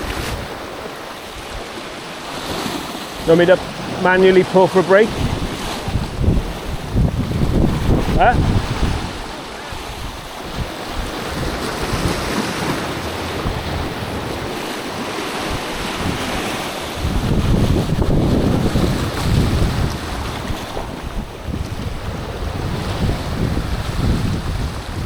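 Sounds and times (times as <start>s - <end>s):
waves washing on rocky shore: 0.0s - 25.0s
wind buffeting microphone: 0.0s - 25.0s.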